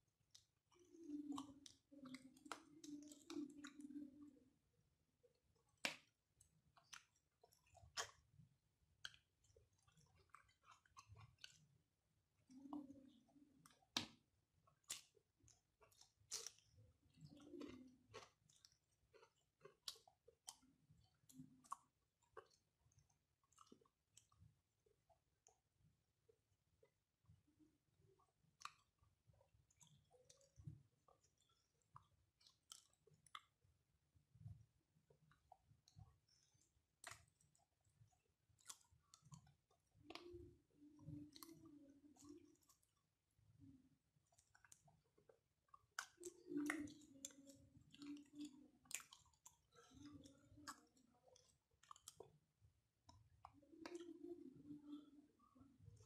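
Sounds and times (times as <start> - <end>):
man chewing food: 0.1 - 4.4, 5.2 - 33.7, 34.3 - 56.0
wet mouth clicks and smacks: 0.3 - 4.4, 5.6 - 8.4, 9.0 - 11.7, 12.4 - 24.5, 28.2 - 33.6, 34.4 - 43.0, 44.2 - 52.4, 53.0 - 55.2.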